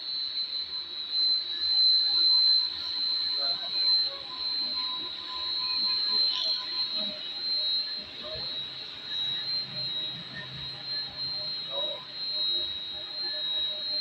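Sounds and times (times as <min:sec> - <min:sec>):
high-pitched electrical whine: 0:00.0 - 0:14.0.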